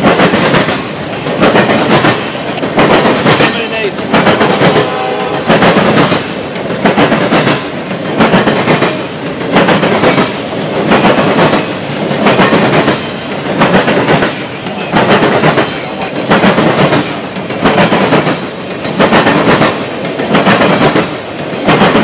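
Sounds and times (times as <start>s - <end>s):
train rolling past: 0.0s - 22.0s
wheels clacking over rail joints: 0.0s - 22.0s.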